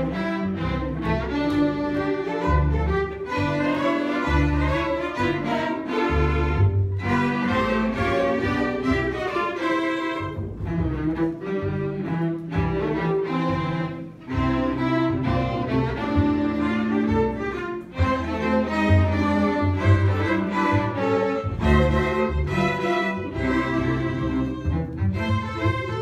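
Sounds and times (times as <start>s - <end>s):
string ensemble playing: 0.0s - 26.0s.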